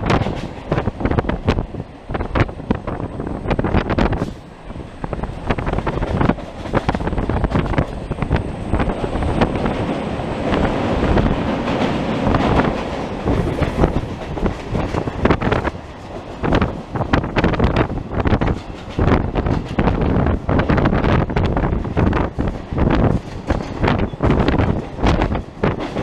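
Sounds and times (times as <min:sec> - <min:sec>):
train wheels rumbling on rails: 0:00.0 - 0:26.0
wind buffeting microphone: 0:00.0 - 0:26.0.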